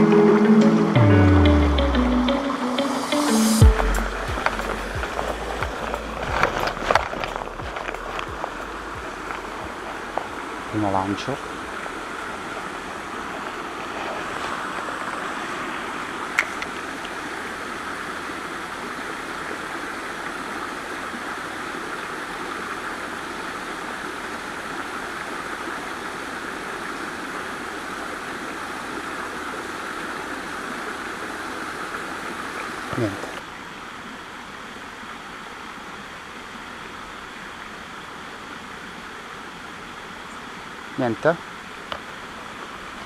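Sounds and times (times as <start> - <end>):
stream water over stones: 3.7 - 43.0.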